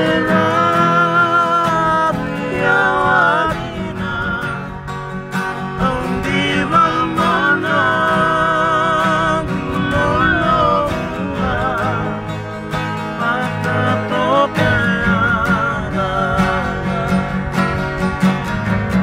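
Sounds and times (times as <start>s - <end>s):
background guitar music: 0.0s - 19.0s.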